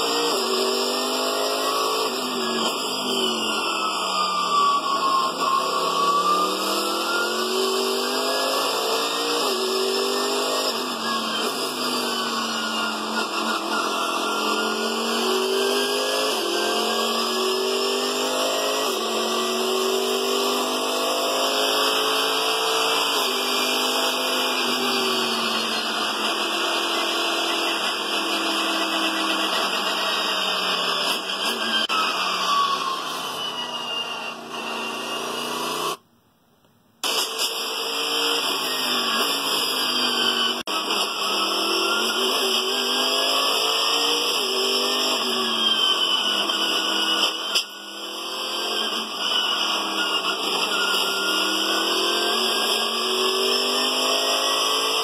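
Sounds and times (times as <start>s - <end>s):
racing car engine revving: 0.0s - 33.6s, 37.0s - 55.0s.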